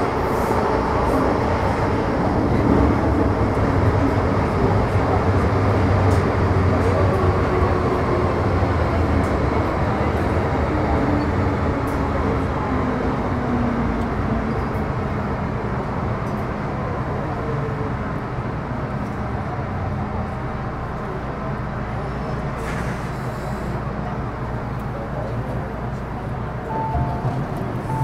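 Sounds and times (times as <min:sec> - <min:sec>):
wheels rumbling on rails: 0:00.0 - 0:28.0.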